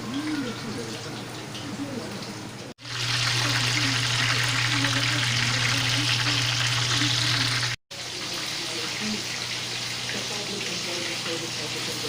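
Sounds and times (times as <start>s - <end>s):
wings deep-frying in hot oil: 0.0s - 12.0s.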